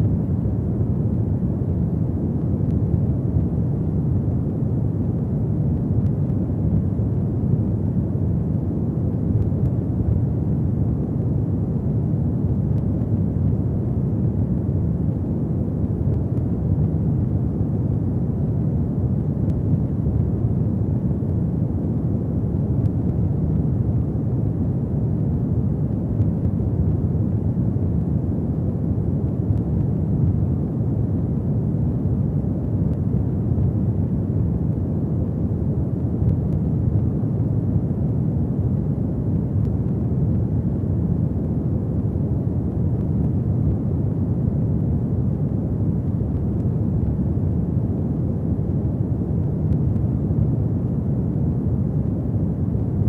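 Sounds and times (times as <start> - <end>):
faint fire crackles: 0.0 - 53.0.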